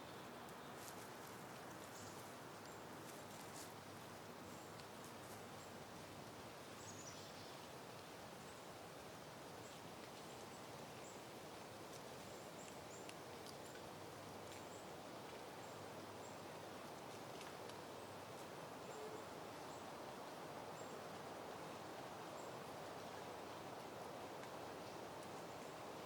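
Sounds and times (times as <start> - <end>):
wind rustling flowers: 0.0 - 26.0.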